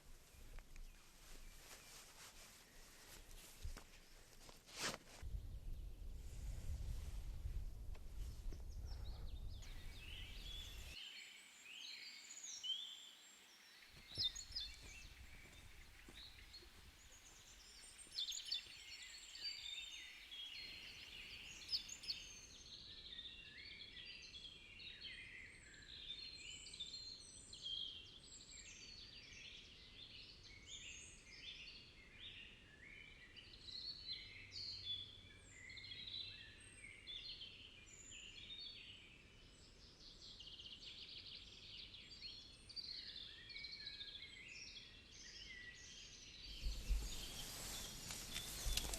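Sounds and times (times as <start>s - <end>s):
songbirds chirping and trilling: 7.9s - 48.9s.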